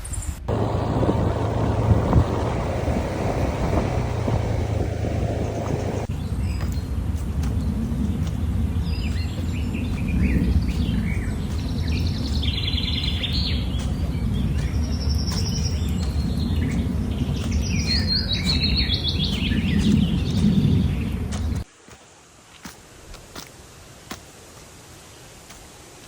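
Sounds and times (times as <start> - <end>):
steady low rumble: 0.4 - 21.7
birds singing: 0.5 - 21.6.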